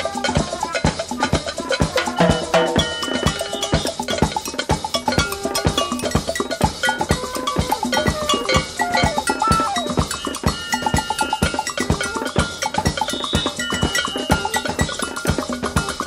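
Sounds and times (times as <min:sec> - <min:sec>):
instrumental samba jazz: 0:00.0 - 0:16.0.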